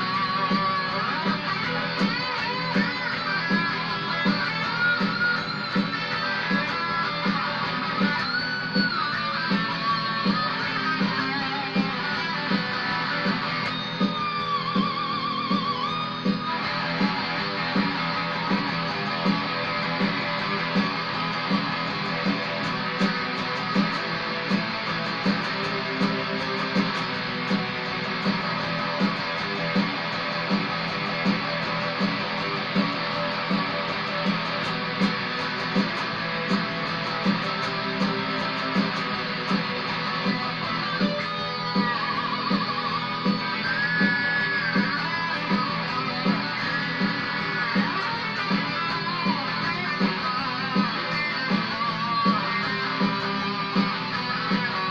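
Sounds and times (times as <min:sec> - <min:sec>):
electric guitar playing: 0:00.0 - 0:54.9
steady pulsing beat: 0:00.0 - 0:54.9.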